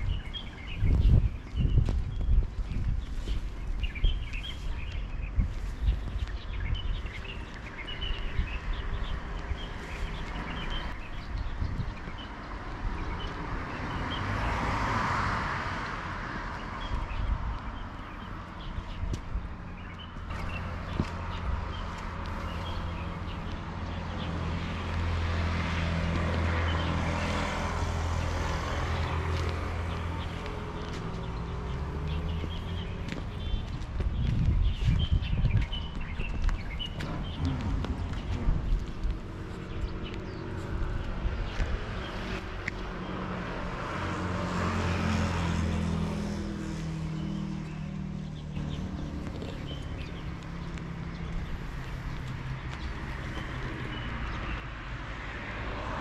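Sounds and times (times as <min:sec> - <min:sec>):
vehicle passing on road: 0:00.0 - 0:56.0.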